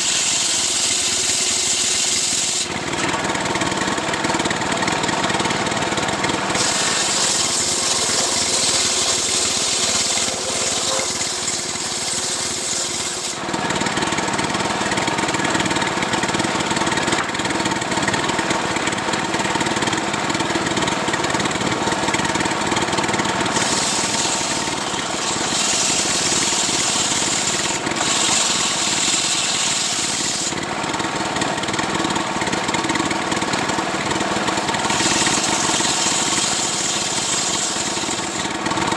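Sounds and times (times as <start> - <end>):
chainsaw cutting wood: 0.0 - 19.0, 19.8 - 38.9.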